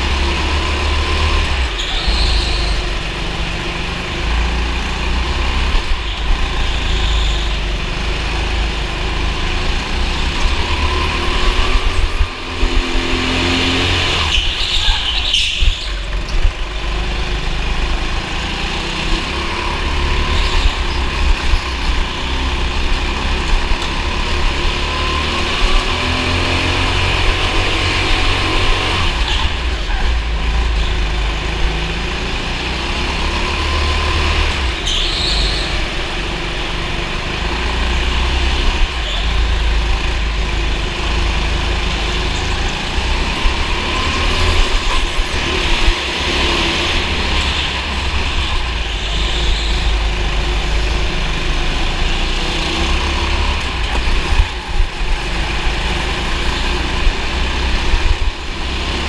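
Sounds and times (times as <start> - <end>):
low rumble and rushing noise: 0.0 - 34.9, 35.6 - 59.0
go-kart engine revving: 0.0 - 59.0.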